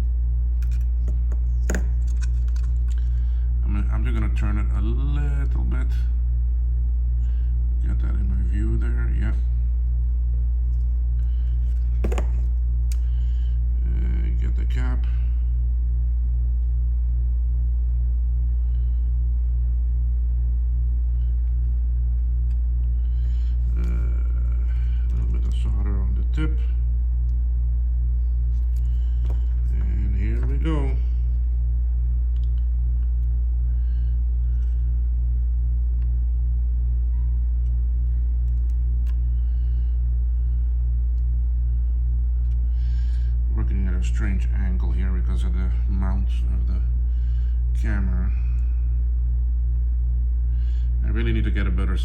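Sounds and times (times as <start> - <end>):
low electrical hum pulsing: 0.0 - 52.0.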